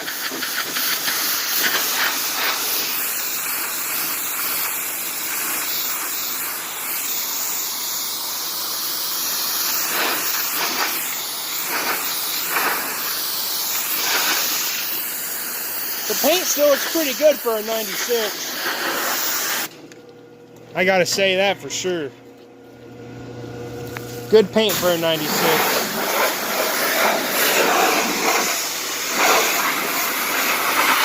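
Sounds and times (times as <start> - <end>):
pressure washer jet spraying: 0.0 - 19.7, 24.3 - 31.0.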